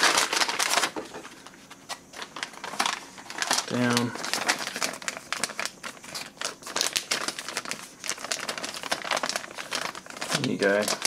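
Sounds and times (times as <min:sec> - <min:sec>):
plastic pouch crinkling: 0:00.0 - 0:11.0.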